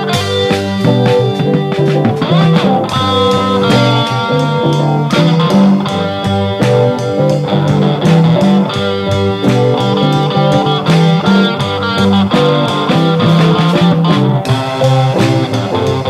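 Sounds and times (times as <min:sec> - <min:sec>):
bass line: 0:00.0 - 0:16.0
drum hits: 0:00.0 - 0:16.0
guitar: 0:00.0 - 0:16.0.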